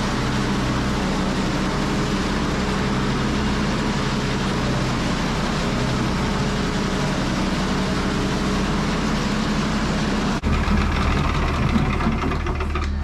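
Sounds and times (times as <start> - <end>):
straw chopper running: 0.0 - 13.0.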